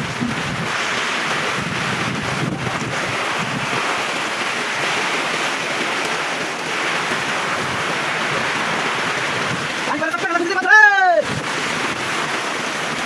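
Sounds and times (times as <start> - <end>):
heavy rain on concrete: 0.0 - 13.0.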